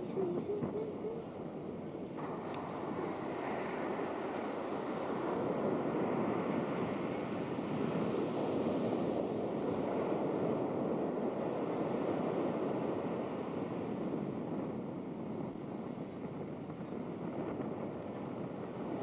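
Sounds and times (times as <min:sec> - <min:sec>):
ocean surf on beach: 0:00.0 - 0:19.0
wind on microphone: 0:00.0 - 0:19.0.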